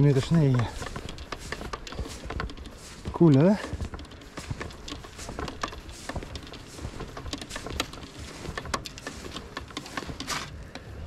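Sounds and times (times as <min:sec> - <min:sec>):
footsteps crunching in deep snow: 0:00.0 - 0:10.7.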